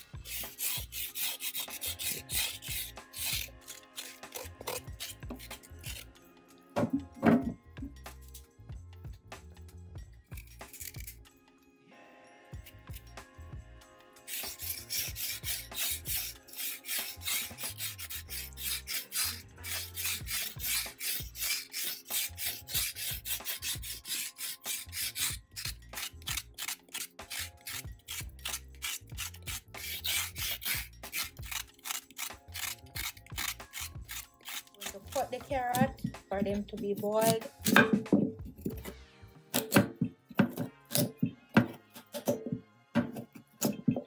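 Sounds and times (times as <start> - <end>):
knife scraping carrot skin: 0.0 - 6.2, 10.3 - 11.3, 12.6 - 13.2, 14.2 - 44.0.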